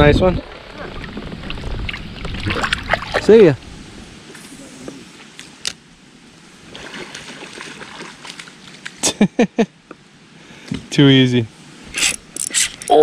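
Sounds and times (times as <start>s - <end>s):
faint water noise: 0.0s - 13.0s.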